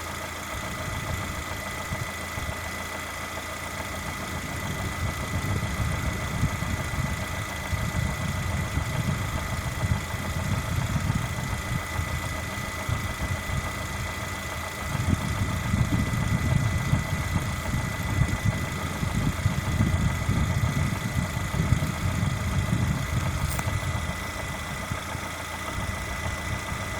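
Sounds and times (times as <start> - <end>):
car engine idling with knock: 0.0 - 26.9.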